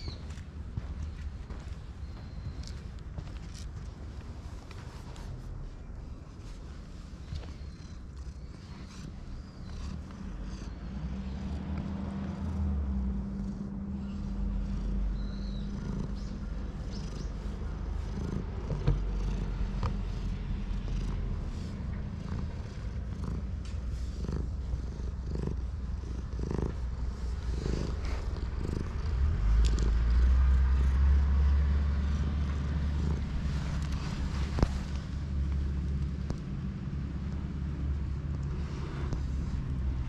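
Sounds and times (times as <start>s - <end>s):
cat purring: 2.0s - 40.0s.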